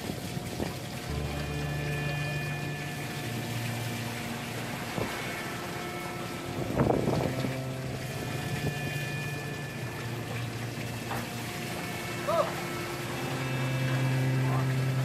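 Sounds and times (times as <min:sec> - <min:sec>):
water noise: 0:00.0 - 0:15.0
boat engine running: 0:00.1 - 0:15.0
music of sustained chords: 0:01.1 - 0:15.0.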